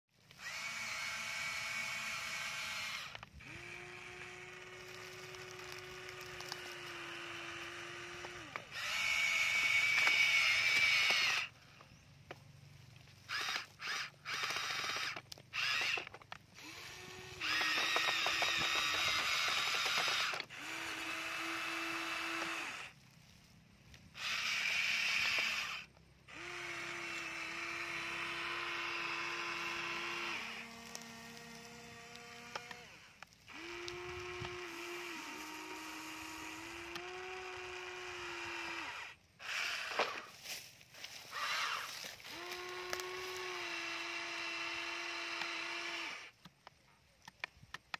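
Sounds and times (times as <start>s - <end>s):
electric motors whining: 0.2s - 46.4s.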